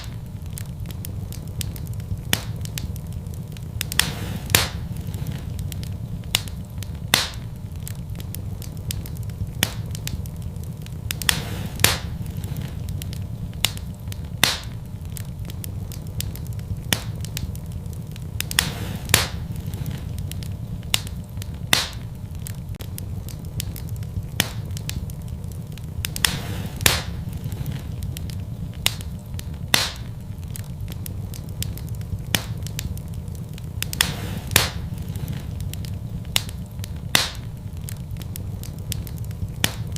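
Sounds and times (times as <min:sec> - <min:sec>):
fire flames rumbling: 0:00.0 - 0:39.9
logs crackling and popping: 0:00.0 - 0:39.9.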